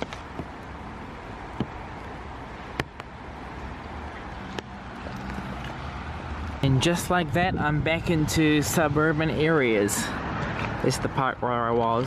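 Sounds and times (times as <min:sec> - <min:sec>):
faint traffic hum: 0:00.0 - 0:12.0.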